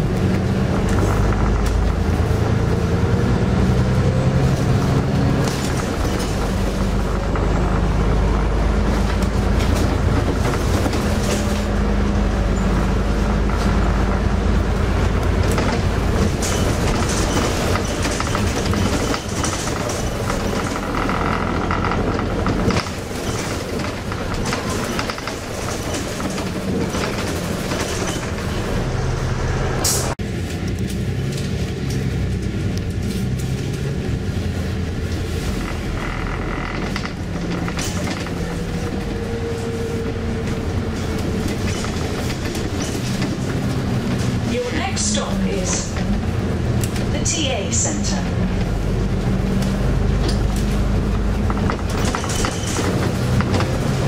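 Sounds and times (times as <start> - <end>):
bus engine running: 0.0 - 54.0
road noise: 0.0 - 54.0.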